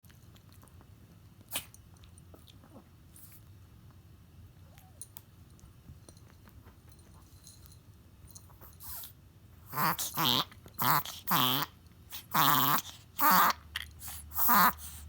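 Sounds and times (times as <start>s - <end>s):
low steady hum: 0.1s - 15.0s.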